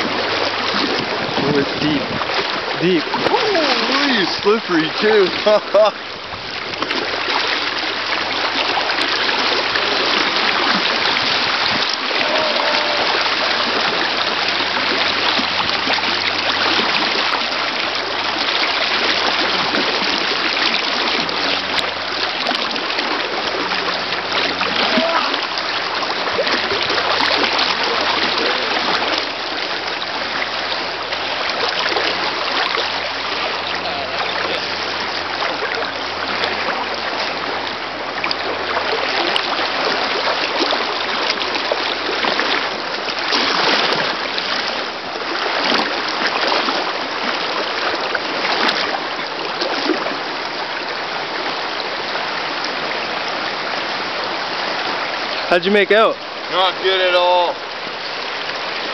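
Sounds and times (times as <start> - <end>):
river water rushing over riffle: 0.0 - 58.9.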